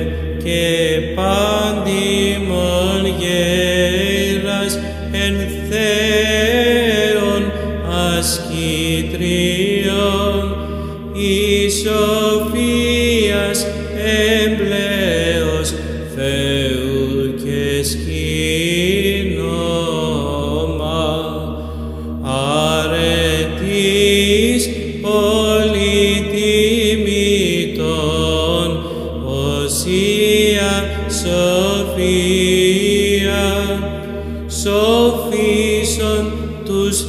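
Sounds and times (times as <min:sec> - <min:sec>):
low held vocal drone: 0:00.0 - 0:37.0
person chanting: 0:00.0 - 0:37.0.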